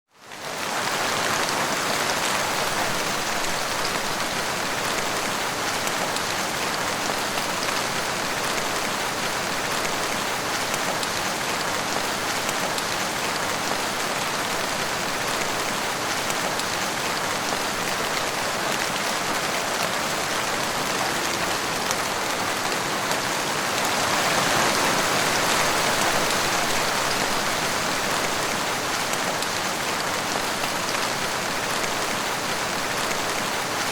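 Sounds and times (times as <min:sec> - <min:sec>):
heavy rain falling: 0:00.2 - 0:33.9.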